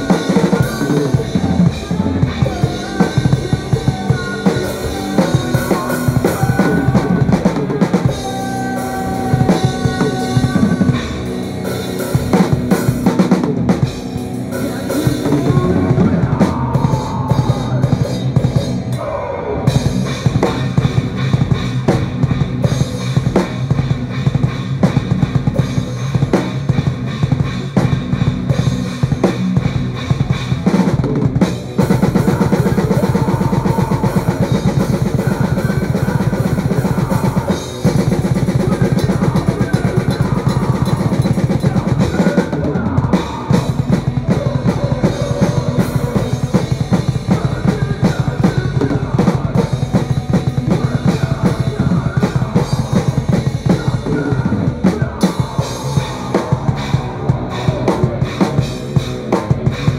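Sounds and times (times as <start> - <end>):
electric guitar: 0.0 - 59.9
metalcore drumming: 0.0 - 59.9.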